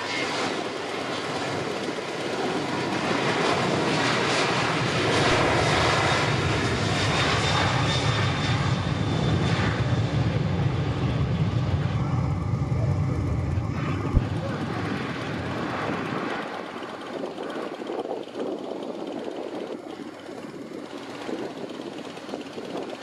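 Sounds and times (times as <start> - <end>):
airliner engines rushing: 0.0 - 23.0.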